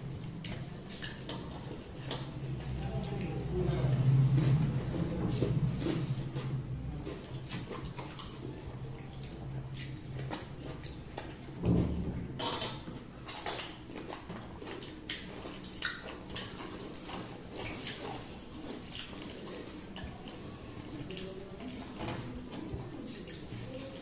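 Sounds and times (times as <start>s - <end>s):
wet chewing and lip smacks: 0.0s - 3.5s, 5.3s - 11.6s, 12.4s - 21.9s.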